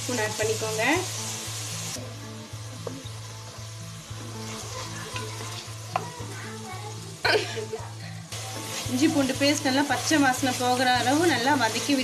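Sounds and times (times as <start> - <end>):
onions sizzling in hot oil: 0.0 - 12.0
soft background music with beat: 0.1 - 12.0.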